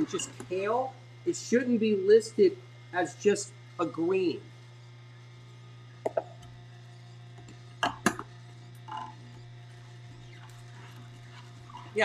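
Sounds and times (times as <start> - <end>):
juicer humming: 0.0 - 12.0.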